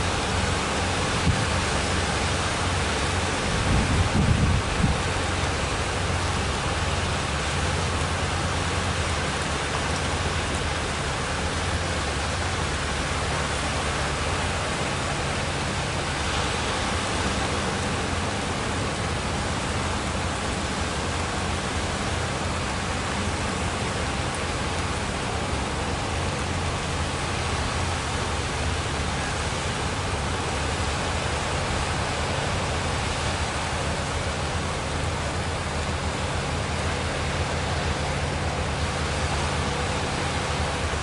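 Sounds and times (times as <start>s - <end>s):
sea surf breaking: 0.0s - 41.0s.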